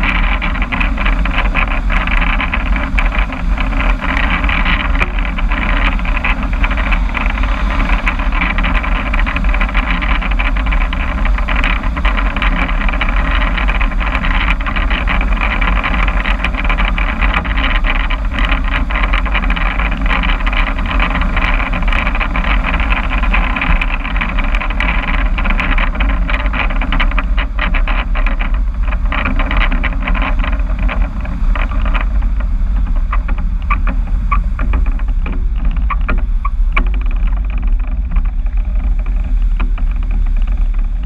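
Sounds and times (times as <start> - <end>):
vehicle engine and exhaust rumbling: 0.0 - 41.0.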